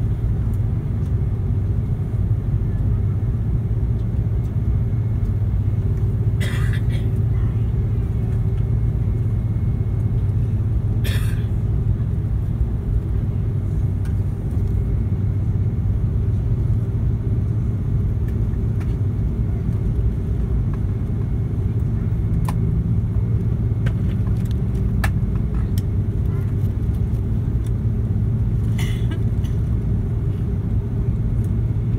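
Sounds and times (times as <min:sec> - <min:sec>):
airplane cabin engine rumble: 0:00.0 - 0:31.9.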